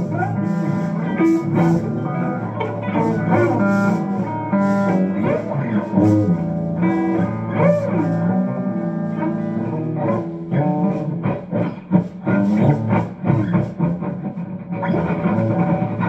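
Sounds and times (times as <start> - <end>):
guitar playing notes and chords: 0.0 - 16.0.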